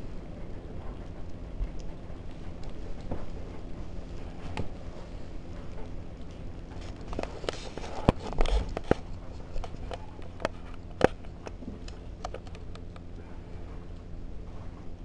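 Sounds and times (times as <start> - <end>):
kittens chewing and lapping: 0.0 - 15.0.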